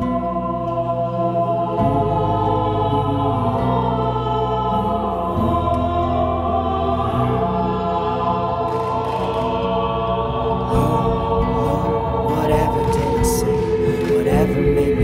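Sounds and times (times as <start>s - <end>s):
choir chanting sustained chords: 0.0s - 15.0s.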